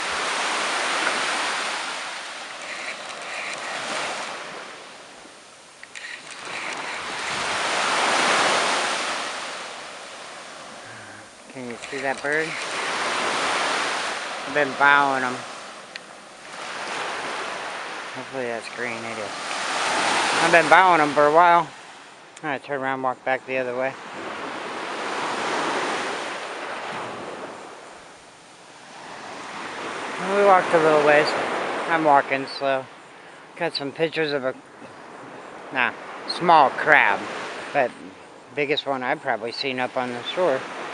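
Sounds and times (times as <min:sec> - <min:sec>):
ocean surf washing onto beach: 0:00.0 - 0:40.9.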